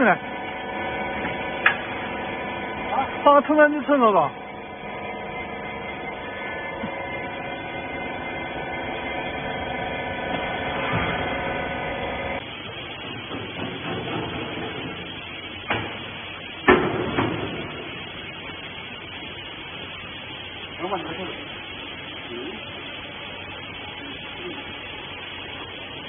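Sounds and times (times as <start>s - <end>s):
hydraulic machine humming: 0.0s - 26.0s
rough machine noise: 0.0s - 26.0s.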